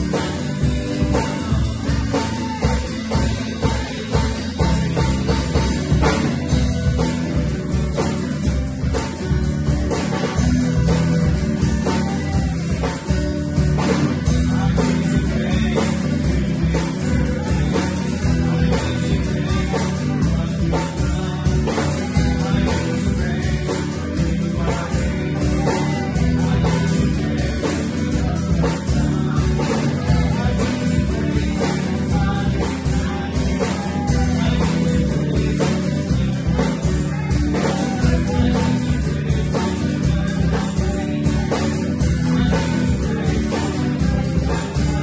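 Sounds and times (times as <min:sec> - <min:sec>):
drum kit beat: 0:00.0 - 0:45.0
live band playing worship song: 0:00.0 - 0:45.0.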